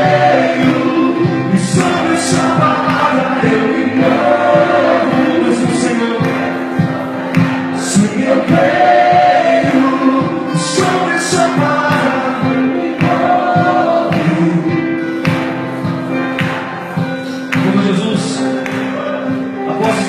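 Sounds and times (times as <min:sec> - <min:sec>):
church band playing: 0:00.0 - 0:20.0
percussion strikes: 0:00.0 - 0:20.0
voices singing: 0:00.0 - 0:20.0.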